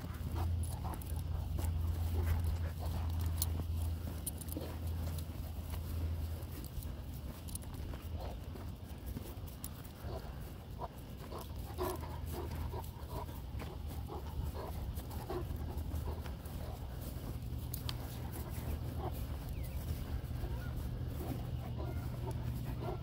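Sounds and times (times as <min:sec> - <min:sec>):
dog panting: 0:00.0 - 0:23.0.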